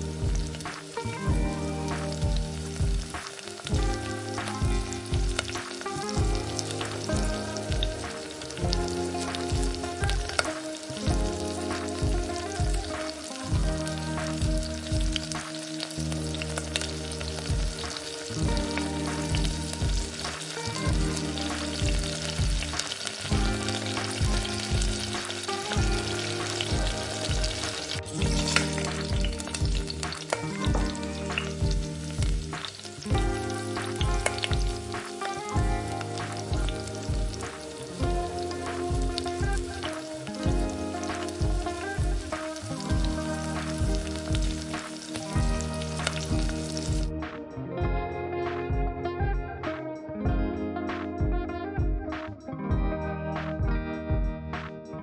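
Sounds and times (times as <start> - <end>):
food sizzling in oil: 0.0 - 47.2
background music with low chords: 0.0 - 55.0.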